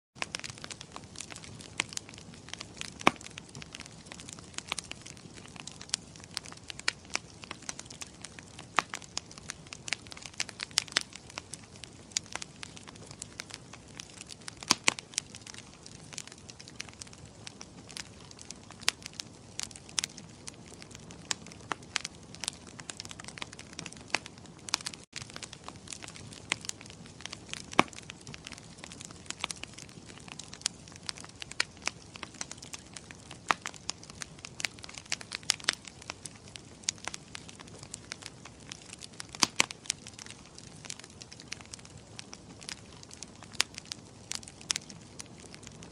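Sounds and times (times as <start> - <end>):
wood fire crackling: 0.2 - 45.9.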